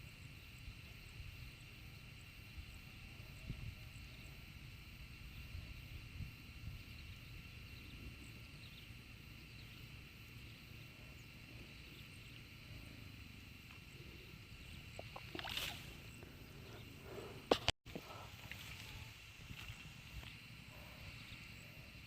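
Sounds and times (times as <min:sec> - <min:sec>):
rustle: 0:00.0 - 0:22.0
steady high-pitched hum: 0:00.0 - 0:22.0
low wind rumble on microphone: 0:00.1 - 0:22.0.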